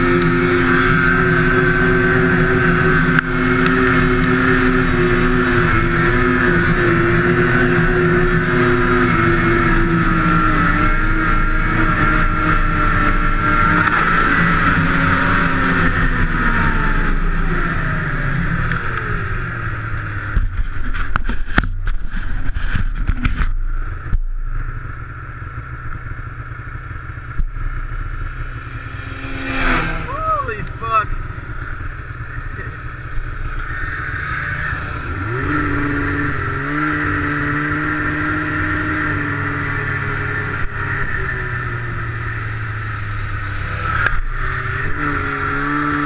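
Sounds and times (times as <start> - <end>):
snowmobile engine running hard: 0.0 - 46.0.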